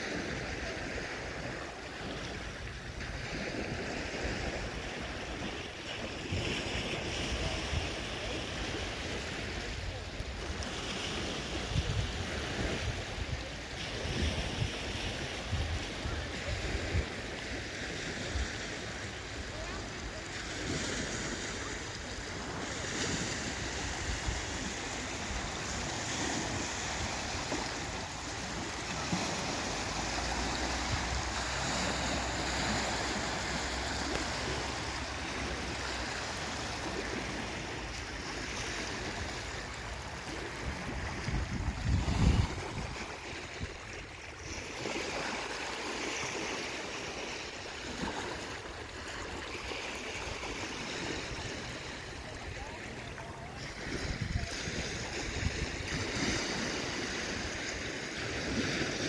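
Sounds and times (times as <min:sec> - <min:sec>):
wind on microphone: 0:00.0 - 0:46.5, 0:53.6 - 0:59.0
waves lapping on sandy shore: 0:00.0 - 0:59.0.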